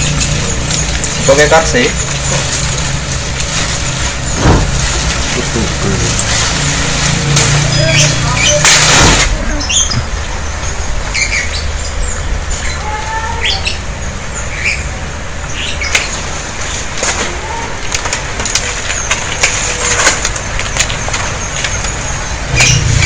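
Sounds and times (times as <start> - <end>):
leafy branches rustling: 0.0 - 23.0
small birds chirping: 0.0 - 23.0.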